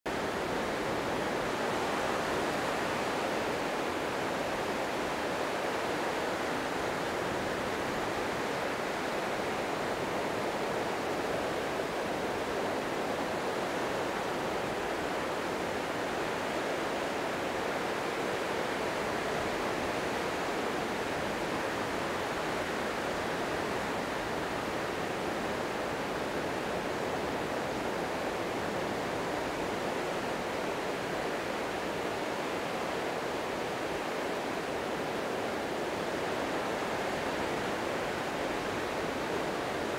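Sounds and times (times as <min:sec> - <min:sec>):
small waves washing on beach: 0:00.1 - 0:39.9.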